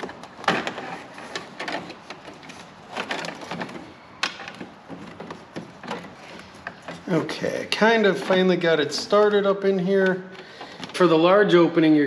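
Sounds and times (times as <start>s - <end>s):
metal mesh scraping on plastic: 0.0s - 11.2s.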